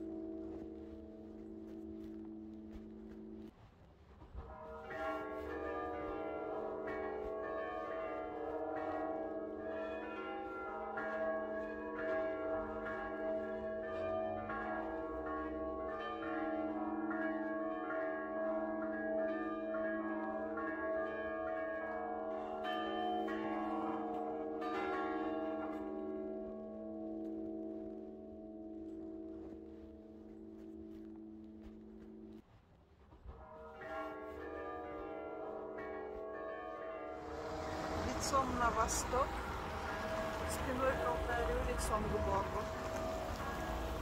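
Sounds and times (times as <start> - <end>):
church bells ringing: 0.0 - 3.5, 4.4 - 32.4, 33.3 - 44.0.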